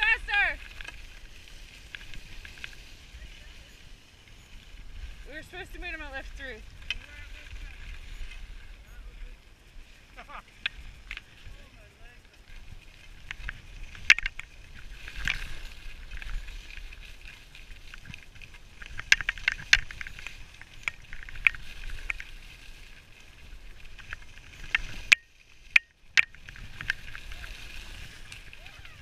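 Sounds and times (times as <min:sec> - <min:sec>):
skis scraping over snow: 0:00.0 - 0:29.0.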